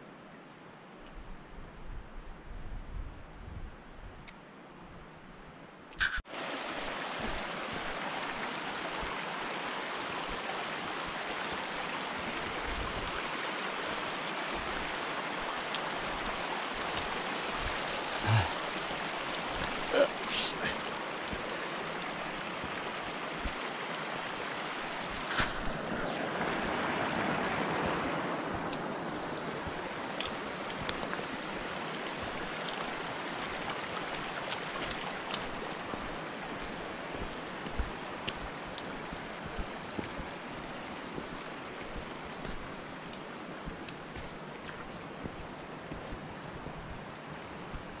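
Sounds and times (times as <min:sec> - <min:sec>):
stream water rushing: 0:06.0 - 0:48.0.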